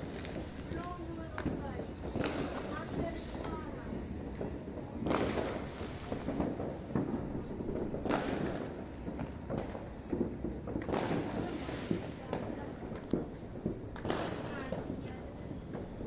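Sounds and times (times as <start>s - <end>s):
fireworks booming bursts: 0.0s - 16.0s.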